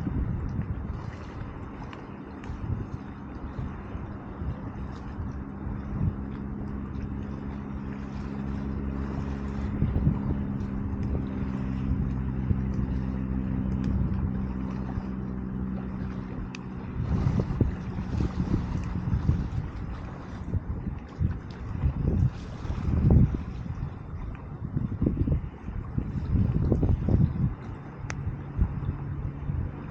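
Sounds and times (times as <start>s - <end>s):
distant engine droning: 0.0s - 29.9s.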